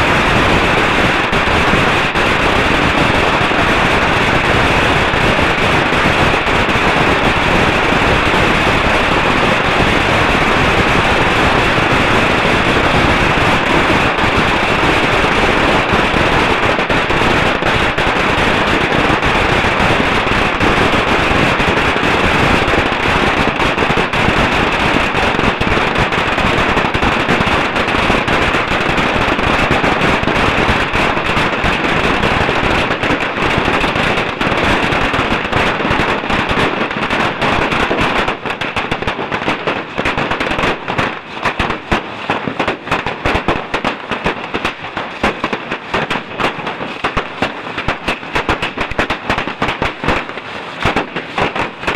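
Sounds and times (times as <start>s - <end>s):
firecrackers crackling: 0.0s - 51.9s.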